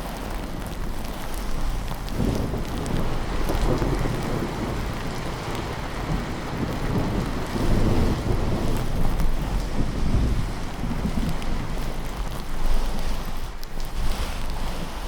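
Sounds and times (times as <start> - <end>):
heavy rain: 0.0 - 15.0
low rumble of thunder: 0.3 - 14.0.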